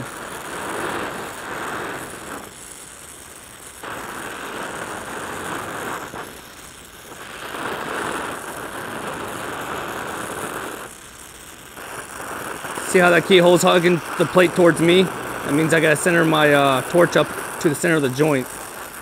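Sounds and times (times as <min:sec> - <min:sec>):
welding torch flame hissing: 0:00.0 - 0:19.0.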